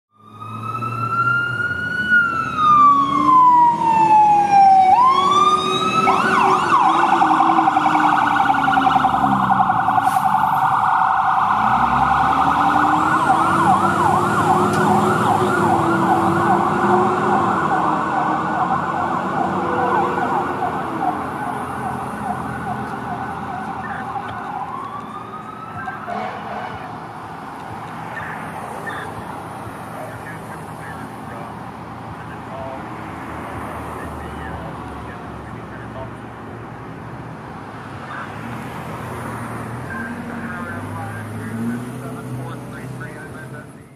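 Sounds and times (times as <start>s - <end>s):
fire engine siren wailing and yelping: 0.1s - 36.4s, 38.0s - 43.9s.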